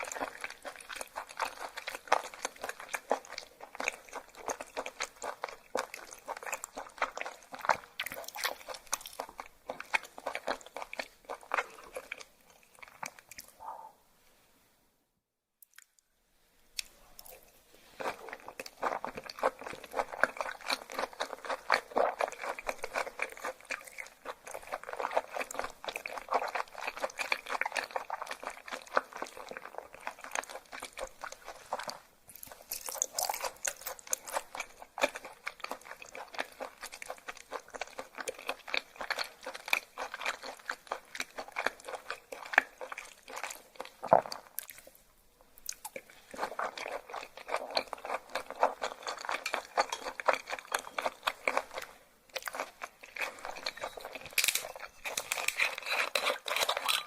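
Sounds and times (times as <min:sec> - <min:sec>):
crunchy chewing: 0:00.0 - 0:13.9, 0:16.8 - 0:45.0, 0:45.6 - 0:57.0.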